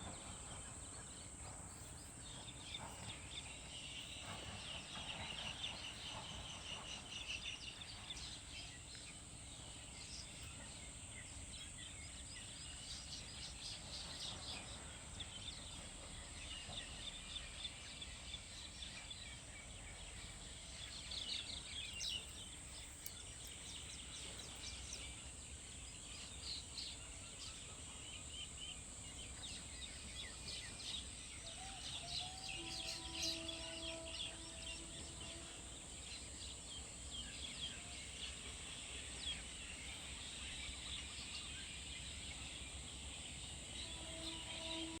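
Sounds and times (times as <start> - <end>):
birds chirping and twittering: 0.0 - 45.0.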